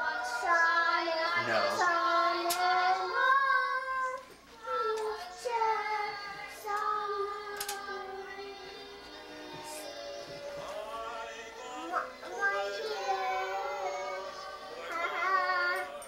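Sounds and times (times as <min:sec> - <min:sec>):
girl singing slow tune: 0:00.0 - 0:10.0, 0:11.6 - 0:16.0.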